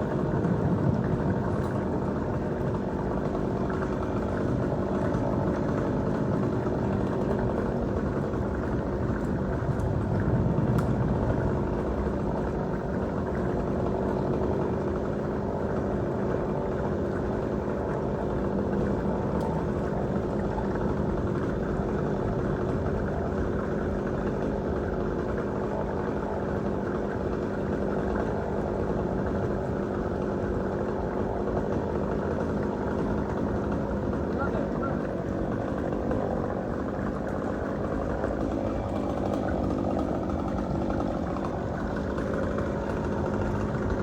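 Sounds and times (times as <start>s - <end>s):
engine running steadily: 0.0s - 44.0s.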